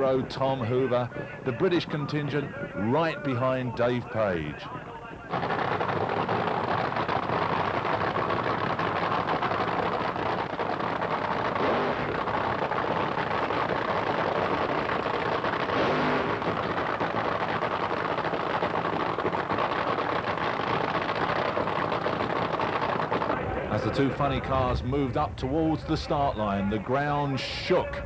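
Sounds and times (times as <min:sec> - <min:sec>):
drag racing engine running: 0:03.9 - 0:26.9.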